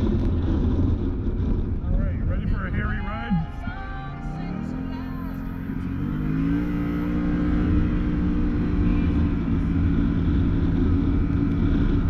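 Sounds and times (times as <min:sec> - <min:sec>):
vehicle engine revving and running: 0:00.0 - 0:12.0.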